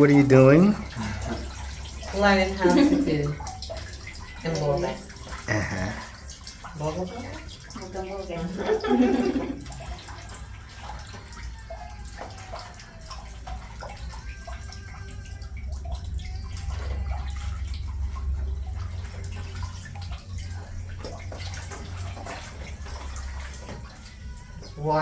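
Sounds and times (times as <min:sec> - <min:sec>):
water sloshing and dripping: 0:00.0 - 0:25.0.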